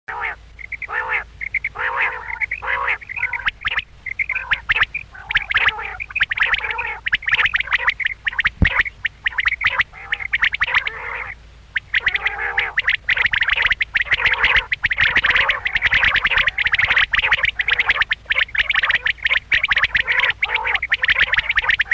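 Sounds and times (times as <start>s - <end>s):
quail calling: 0.1s - 21.9s.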